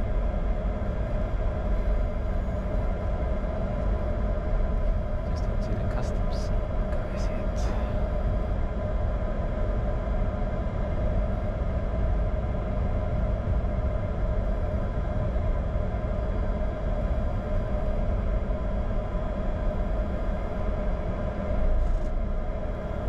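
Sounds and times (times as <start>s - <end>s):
jet engines idling in cockpit: 0.0s - 23.0s.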